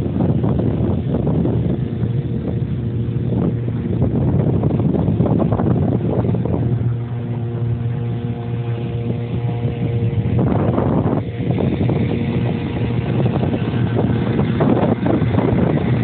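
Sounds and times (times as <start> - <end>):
outboard motor humming: 0.0 - 16.0
wind noise on microphone: 0.0 - 16.0.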